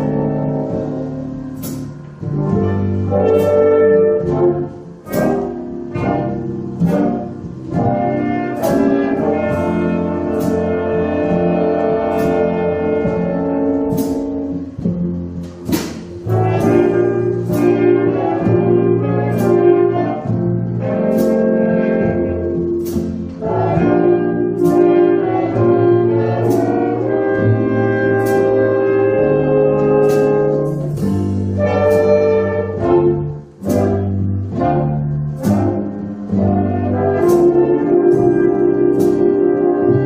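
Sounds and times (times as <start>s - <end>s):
big band sustained chords: 0.0s - 40.0s.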